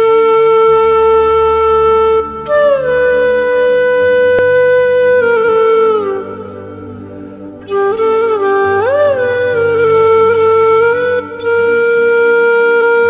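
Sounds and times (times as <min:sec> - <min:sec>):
wind instrument music: 0:00.0 - 0:13.0.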